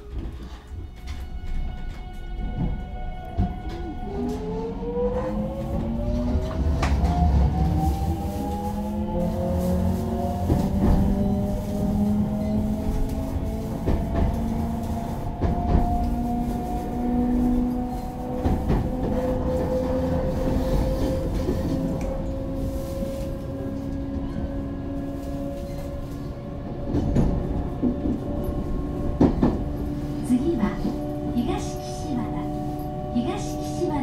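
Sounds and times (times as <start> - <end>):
wheel-on-rail rumble: 3.4 - 34.0.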